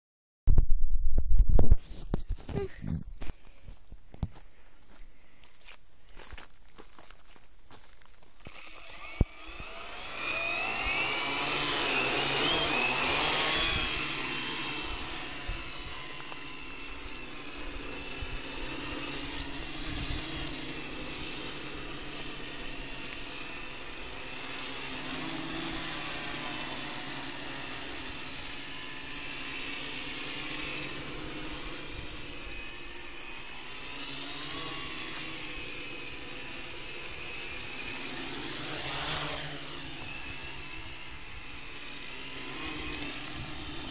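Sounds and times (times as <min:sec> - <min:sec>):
quadcopter motors whining: 0:08.4 - 0:43.9.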